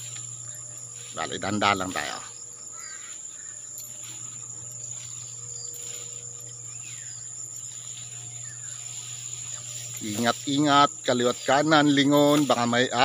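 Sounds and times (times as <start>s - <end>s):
grass rustling underfoot: 0.0s - 13.0s
insects trilling: 0.0s - 13.0s.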